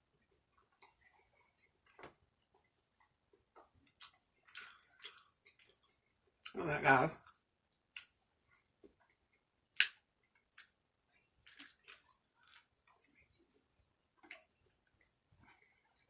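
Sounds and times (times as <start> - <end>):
close chewing and eating: 0.0 - 16.0.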